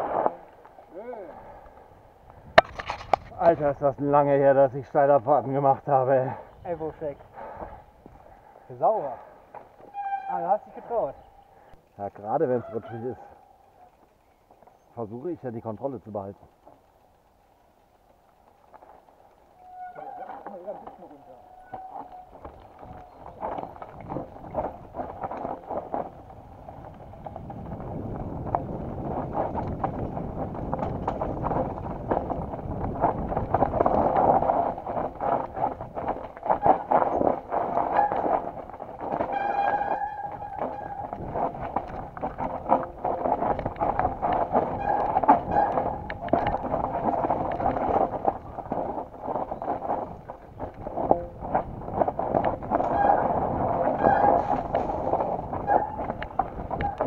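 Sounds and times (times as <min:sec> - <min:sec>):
bike rattling over roots: 0:00.0 - 0:57.0
tyre and wind noise: 0:00.0 - 0:57.0.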